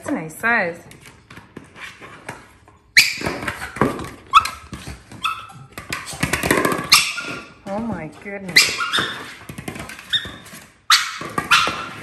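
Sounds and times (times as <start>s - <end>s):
teeth and claws on ball: 1.1s - 12.0s.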